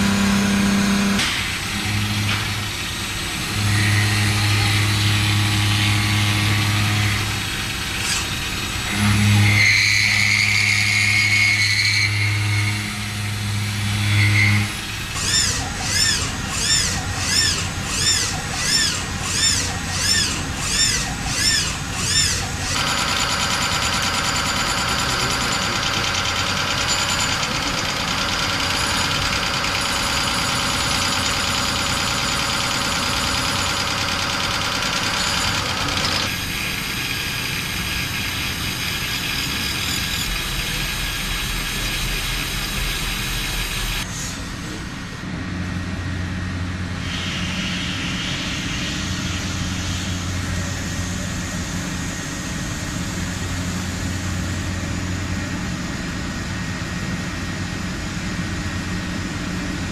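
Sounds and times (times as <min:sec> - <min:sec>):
heavy industrial machinery running: 0:00.0 - 0:59.9.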